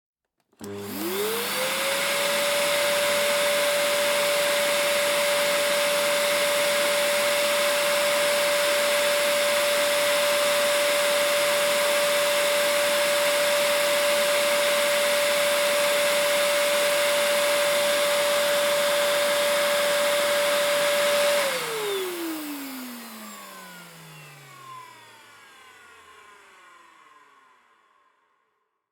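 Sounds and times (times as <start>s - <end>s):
vacuum cleaner motor whine: 0.5s - 28.4s.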